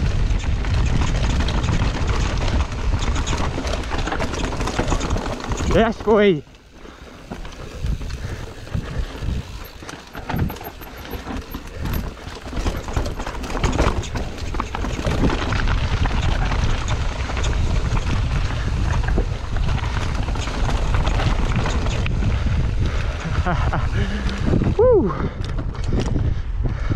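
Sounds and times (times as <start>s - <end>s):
bike rattling and clicking: 0.0s - 26.9s
wind rushing over microphone: 0.0s - 26.9s.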